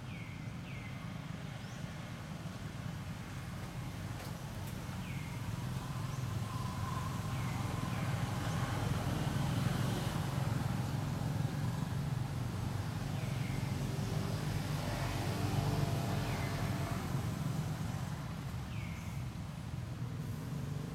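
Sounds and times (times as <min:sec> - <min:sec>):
low engine rumble: 0:00.0 - 0:20.9.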